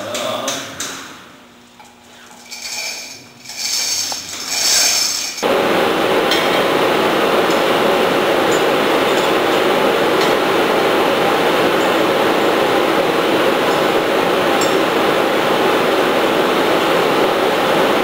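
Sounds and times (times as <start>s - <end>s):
pump machinery running: 2.4s - 18.0s.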